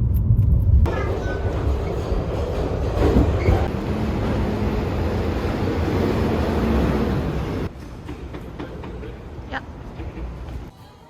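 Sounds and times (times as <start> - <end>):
train rumbling: 0.0 - 10.7.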